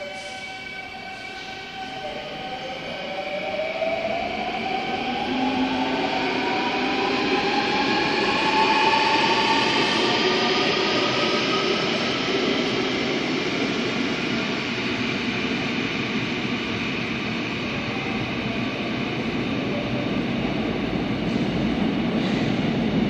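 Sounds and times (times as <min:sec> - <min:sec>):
train wheels rumbling on rail: 0:03.6 - 0:23.0.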